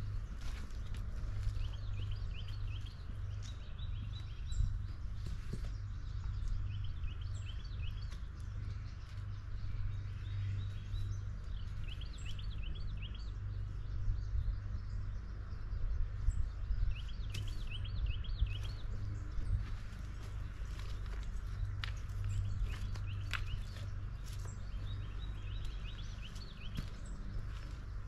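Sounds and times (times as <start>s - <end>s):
songbird singing: 0.0s - 28.0s
steady low rumble: 0.0s - 28.0s.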